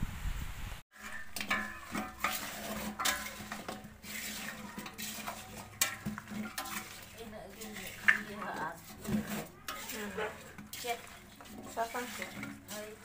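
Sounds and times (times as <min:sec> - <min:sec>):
spoon scraping metal pot: 0:00.9 - 0:13.0.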